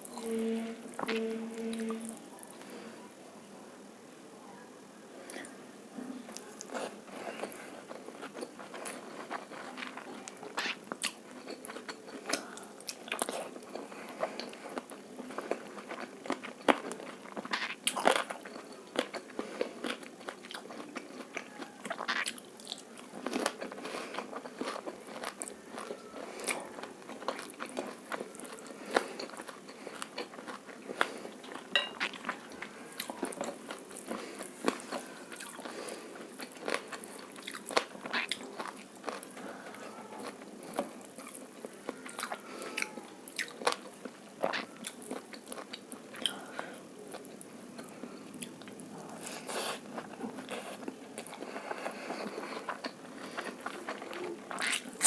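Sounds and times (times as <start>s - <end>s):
chewing and crunchy biting: 6.3s - 55.0s.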